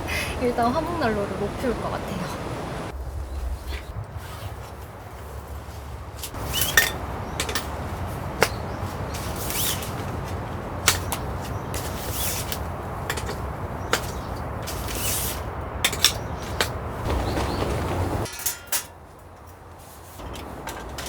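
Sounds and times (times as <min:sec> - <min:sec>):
strong wind rumbling: 0:00.0 - 0:18.3.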